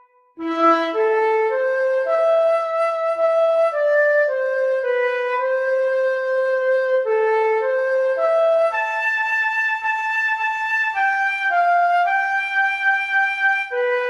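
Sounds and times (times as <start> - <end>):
flute playing solo melody: 0.0 - 14.0.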